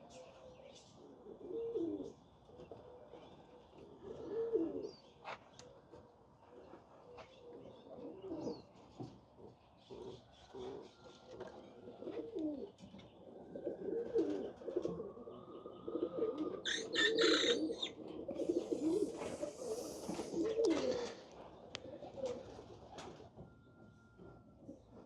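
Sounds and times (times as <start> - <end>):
pigeons cooing: 1.0 - 5.8, 6.4 - 8.8, 9.4 - 23.3.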